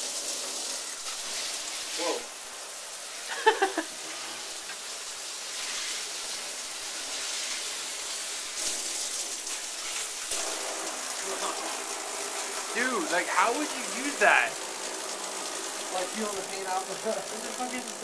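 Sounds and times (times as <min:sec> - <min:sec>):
shower water spraying into tub: 0:00.0 - 0:18.0.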